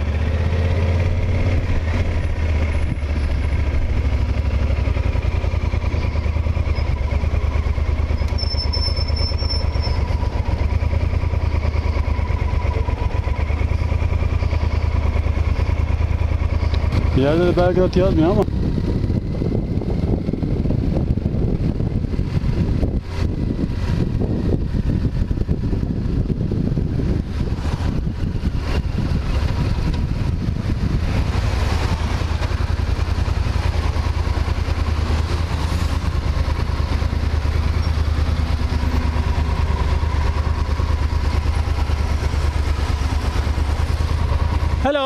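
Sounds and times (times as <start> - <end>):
motorcycle engine: 0.0 - 45.0
motorcycle engine idling: 0.0 - 45.0
road and wind noise: 0.0 - 45.0.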